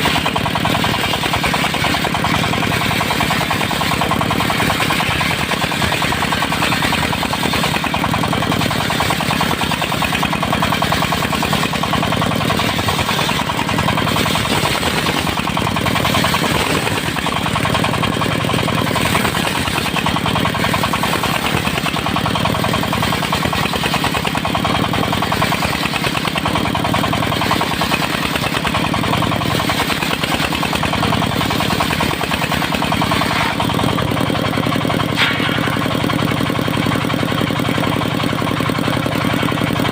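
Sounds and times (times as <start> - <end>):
rapid knocking beat: 0.0 - 39.9
sawmill engine running: 0.0 - 39.9.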